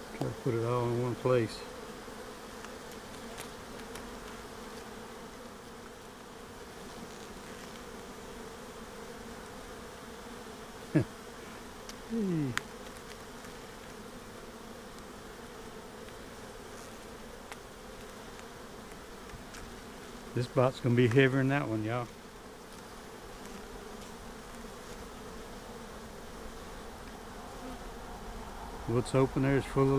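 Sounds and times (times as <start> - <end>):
bee buzzing past: 0.0 - 29.9
honeybees humming: 0.0 - 29.9.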